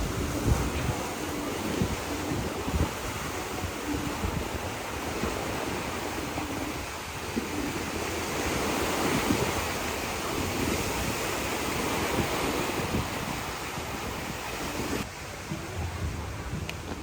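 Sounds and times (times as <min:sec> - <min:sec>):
sea surf washing in: 0:00.0 - 0:17.0
wind on microphone: 0:00.0 - 0:17.0.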